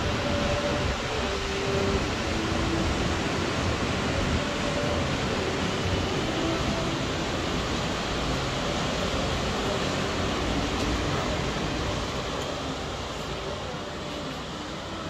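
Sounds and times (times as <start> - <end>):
rough surf: 0.0 - 15.0
wind: 0.0 - 15.0.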